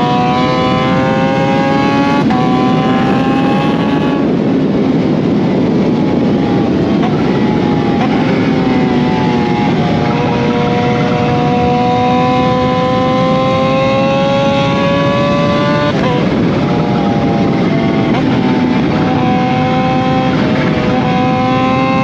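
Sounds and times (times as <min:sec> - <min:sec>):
constant rushing noise: 0:00.0 - 0:22.0
motorcycle engine revving: 0:00.0 - 0:22.0.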